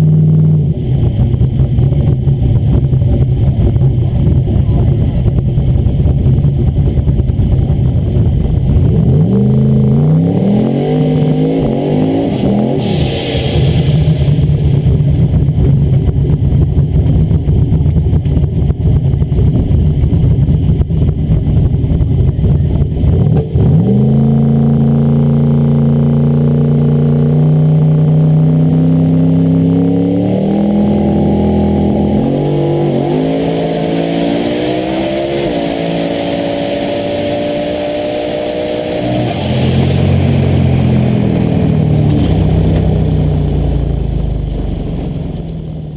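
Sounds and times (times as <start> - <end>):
drag car engine: 0.0 - 45.9.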